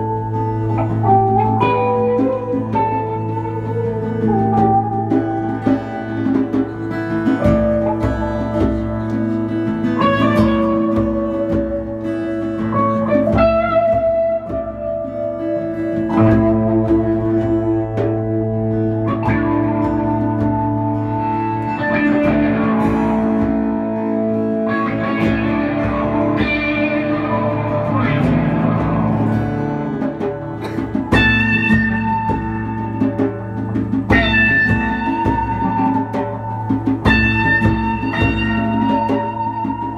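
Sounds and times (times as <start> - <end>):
electric guitar: 0.0 - 39.9
strummed acoustic guitar: 0.0 - 39.9.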